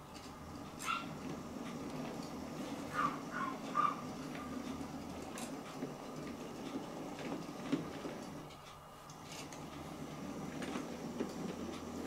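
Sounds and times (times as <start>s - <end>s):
wheels clicking over track: 0.0s - 12.0s.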